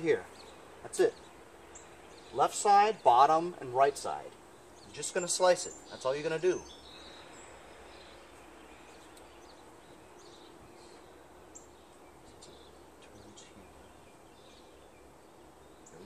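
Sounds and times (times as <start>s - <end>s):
outdoor ambience: 0.0s - 16.0s.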